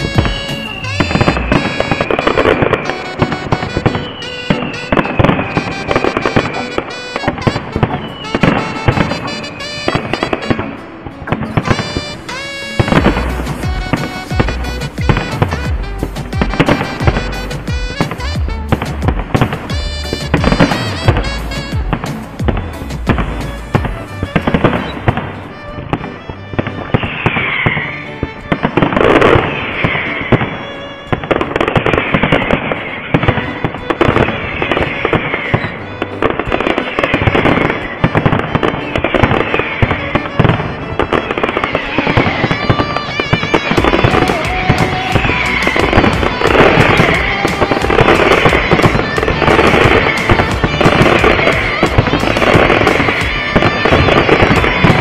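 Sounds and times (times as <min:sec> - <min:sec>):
firework shell bursts and bangs: 0:00.0 - 0:55.0
fireworks crackling: 0:00.0 - 0:55.0
high firework whistles: 0:00.0 - 0:55.0.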